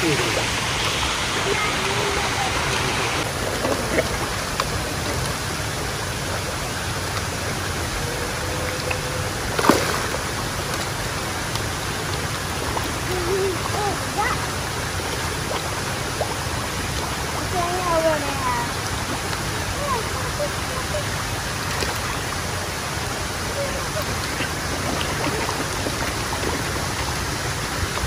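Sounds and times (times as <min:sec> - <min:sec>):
water rushing: 0:00.0 - 0:28.0.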